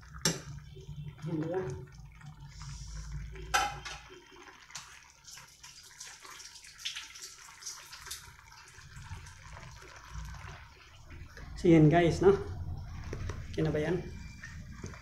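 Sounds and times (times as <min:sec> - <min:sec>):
sauce bubbling and popping: 0:00.0 - 0:11.7, 0:12.5 - 0:15.0.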